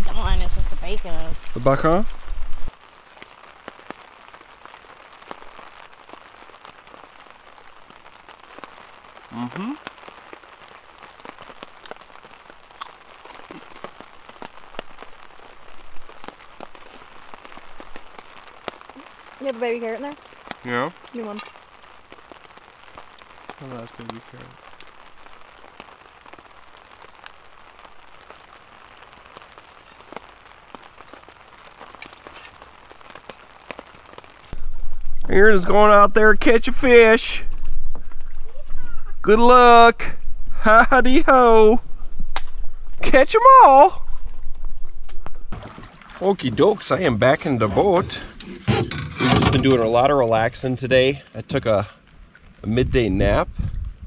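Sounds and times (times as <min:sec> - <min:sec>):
rain falling on a tarp: 0:00.0 - 0:54.0.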